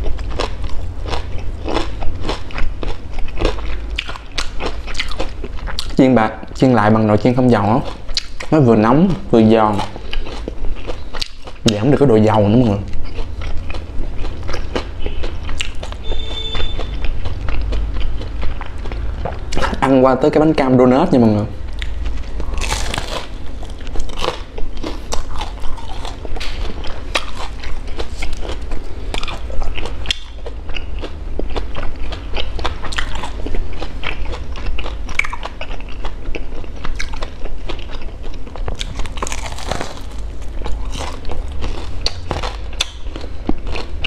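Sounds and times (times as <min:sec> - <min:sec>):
crunchy fried donut chewing: 0:00.0 - 0:06.0, 0:09.6 - 0:19.9, 0:21.6 - 0:44.0
low steady hum: 0:00.0 - 0:44.0.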